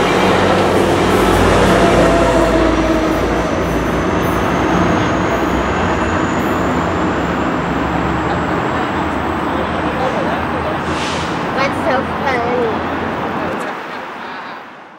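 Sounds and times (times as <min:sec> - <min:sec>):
train wheels rumbling on rail: 0:00.0 - 0:13.9.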